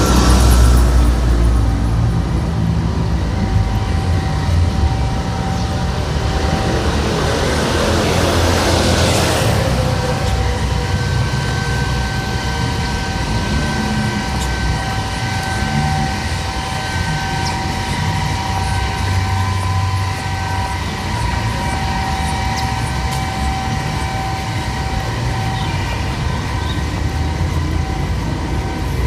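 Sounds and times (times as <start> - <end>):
heavy vehicle engine rumble: 0.0 - 29.0
high-pitched whine: 0.0 - 29.0
street traffic: 0.0 - 29.0.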